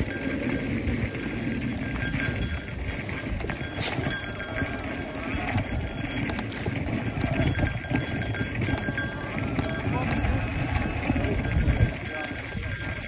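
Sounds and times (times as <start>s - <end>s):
bike rattling and clicking: 0.0s - 13.0s
bike tyres rumbling on dirt: 0.0s - 13.0s
wind buffeting microphone: 0.0s - 13.0s.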